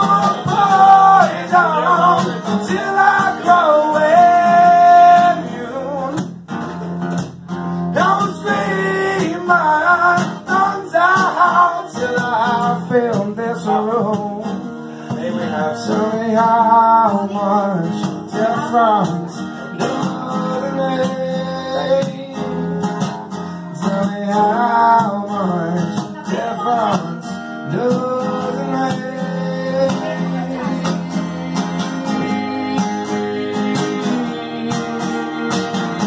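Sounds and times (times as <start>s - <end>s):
man singing: 0.0s - 6.4s, 7.9s - 36.0s
acoustic guitar: 0.0s - 36.0s.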